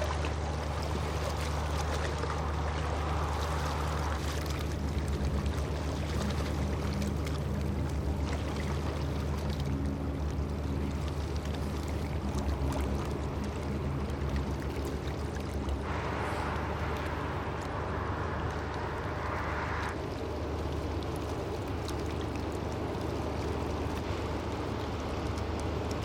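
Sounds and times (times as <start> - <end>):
rushing water: 0.0 - 26.0
ship engine droning: 0.0 - 26.0.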